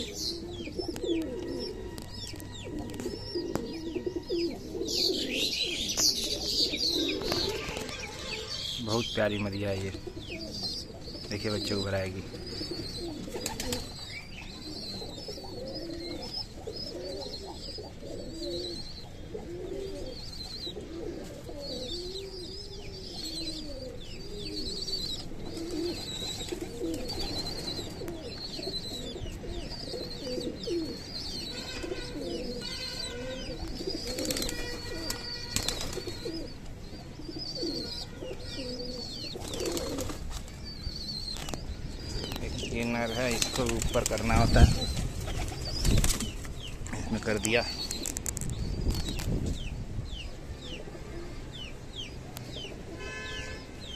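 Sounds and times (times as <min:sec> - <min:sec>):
pigeons cooing: 0:00.0 - 0:53.9.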